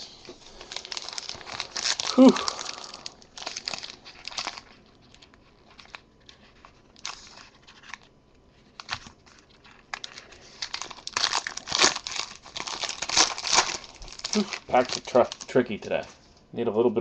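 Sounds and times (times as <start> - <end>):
card pack wrapper crinkling: 0.2 - 16.4
wrapper being torn open: 0.4 - 8.1, 8.7 - 16.1.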